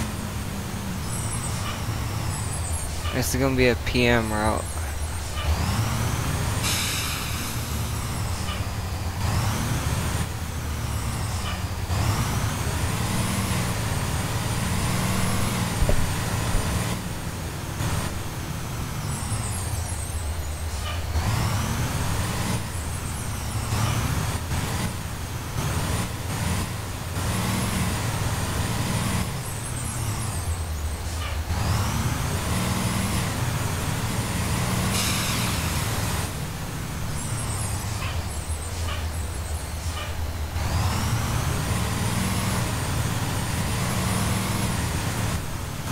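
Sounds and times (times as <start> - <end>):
bus engine rumbling: 0.0 - 45.9
rising engine whine: 0.0 - 45.9.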